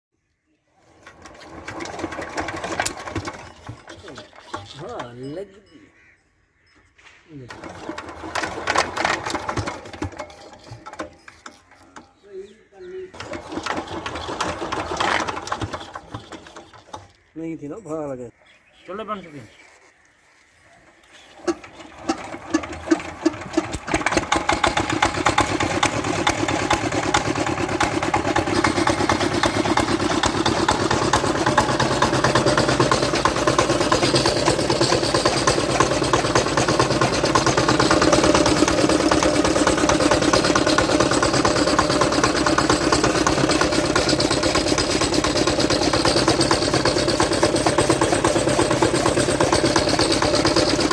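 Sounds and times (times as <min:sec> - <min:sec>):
diesel engine starting and running: 0:00.8 - 0:05.4, 0:07.3 - 0:17.8, 0:21.2 - 0:50.9.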